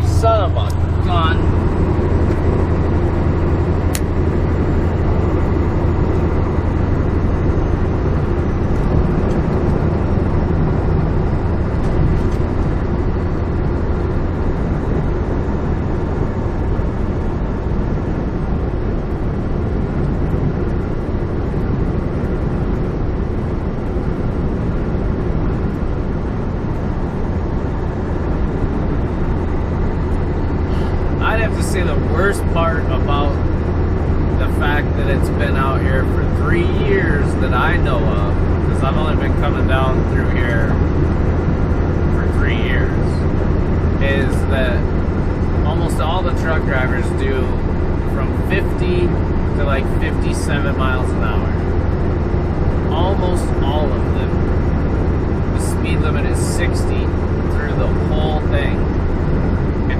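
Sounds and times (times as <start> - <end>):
road noise: 0.0 - 59.9
truck diesel engine drone: 0.0 - 59.9.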